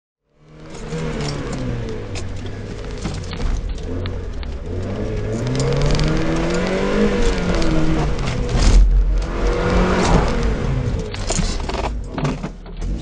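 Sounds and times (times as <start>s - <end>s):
car engine revving: 0.3s - 13.0s.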